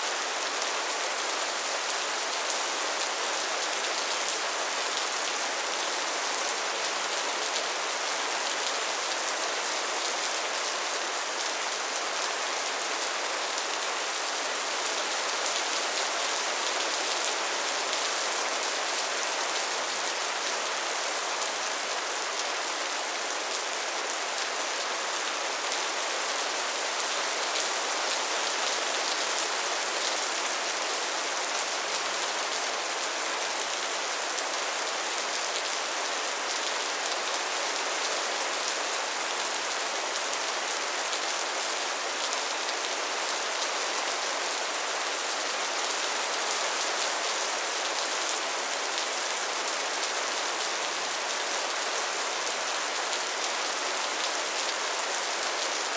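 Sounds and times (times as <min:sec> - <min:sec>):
soft rain falling: 0:00.0 - 0:55.9.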